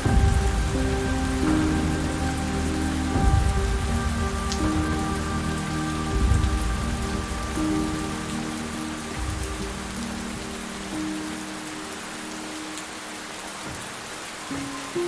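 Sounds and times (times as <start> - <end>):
rain falling: 0.0 - 15.0
soft slow music: 0.0 - 15.0.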